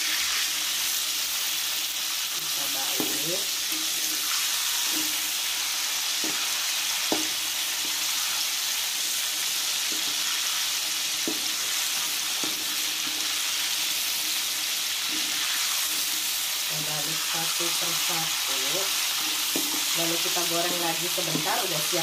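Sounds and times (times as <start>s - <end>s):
shrimp sizzling in oil: 0.0s - 22.0s.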